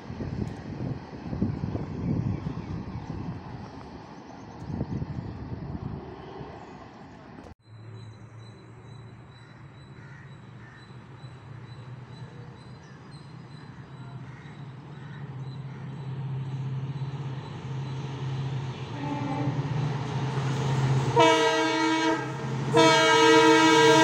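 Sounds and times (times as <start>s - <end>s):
train humming: 0.0s - 24.0s.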